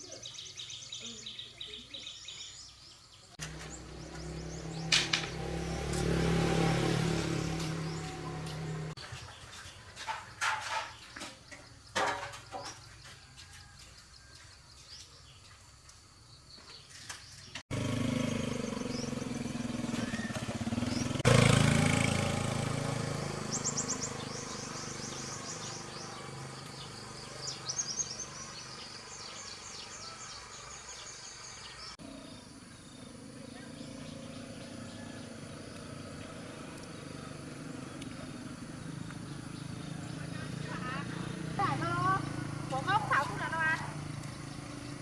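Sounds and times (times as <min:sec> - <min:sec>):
birds chirping: 0:00.0 - 0:13.2, 0:14.2 - 0:45.0
vehicle engine rumble: 0:03.3 - 0:13.4, 0:17.3 - 0:45.0.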